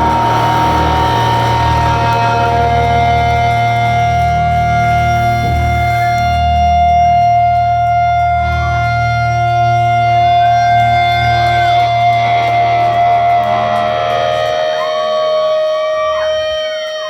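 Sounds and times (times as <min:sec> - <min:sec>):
low bass note: 0:00.0 - 0:16.7
electric guitar notes: 0:00.0 - 0:17.0.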